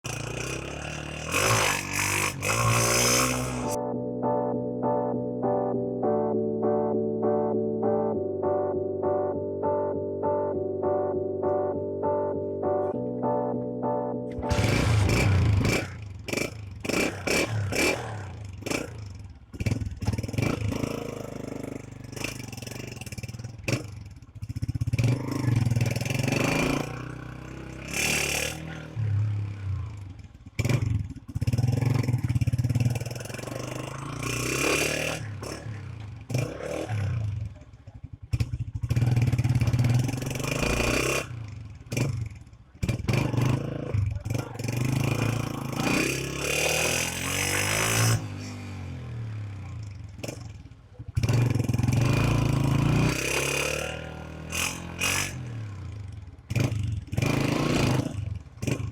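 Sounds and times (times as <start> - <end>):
motorcycle engine revving: 0.0 - 3.8, 14.4 - 58.9.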